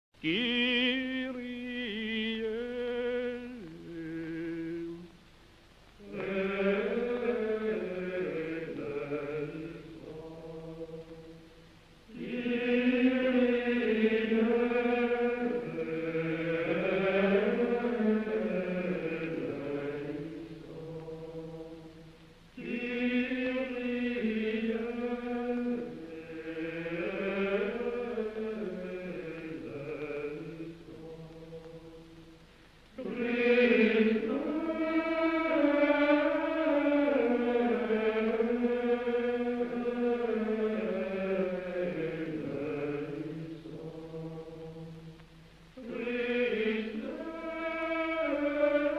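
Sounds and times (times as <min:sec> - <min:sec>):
slow vocal chant: 0:00.2 - 0:48.9.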